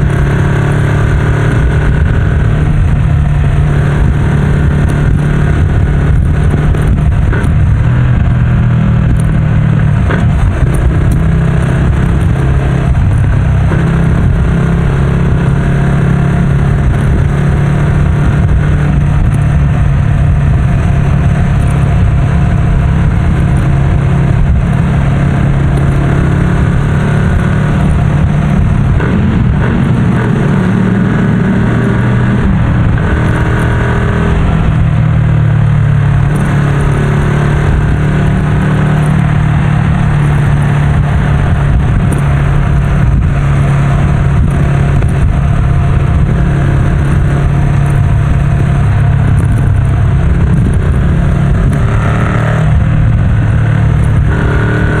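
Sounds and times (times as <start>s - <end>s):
motorcycle cruising exhaust note: 0.0s - 55.0s.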